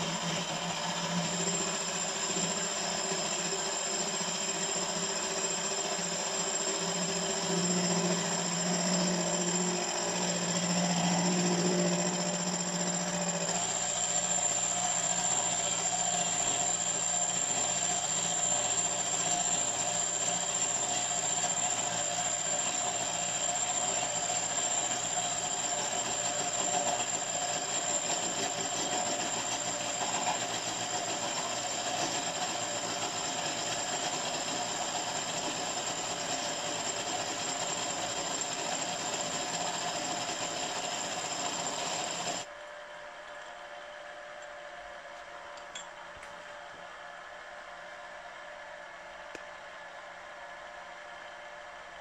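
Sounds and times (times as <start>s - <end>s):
milling machine cutting metal: 0.0s - 42.5s
steady high whine: 0.0s - 52.0s.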